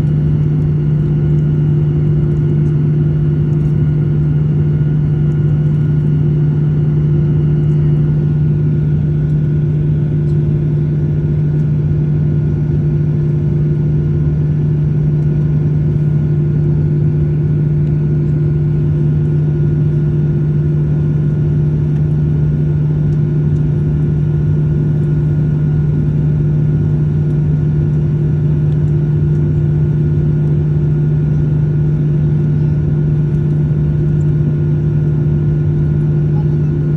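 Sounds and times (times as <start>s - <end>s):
airliner cabin engine drone: 0.0s - 36.9s.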